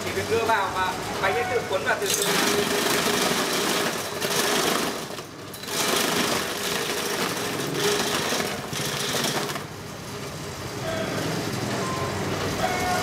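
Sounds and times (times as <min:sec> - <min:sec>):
steady motor hum: 0:00.0 - 0:13.0.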